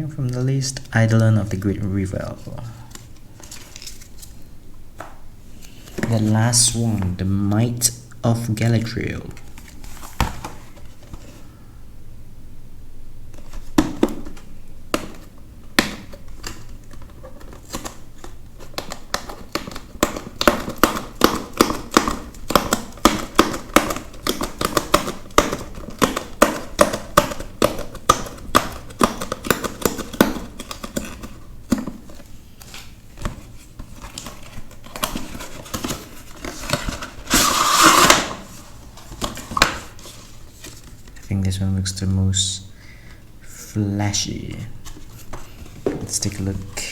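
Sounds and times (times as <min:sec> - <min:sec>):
packaging rustling: 0:02.2 - 0:07.3, 0:09.2 - 0:11.6, 0:13.3 - 0:41.4, 0:44.7 - 0:46.9.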